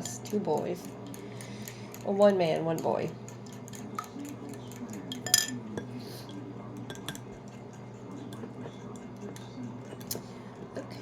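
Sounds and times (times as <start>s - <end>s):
utensils clinking against dishes: 0.0s - 10.9s.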